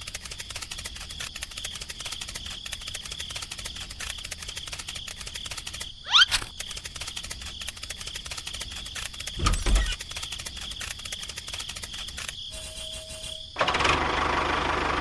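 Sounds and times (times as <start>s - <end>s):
rapid cartoon pattering: 0.0s - 12.9s.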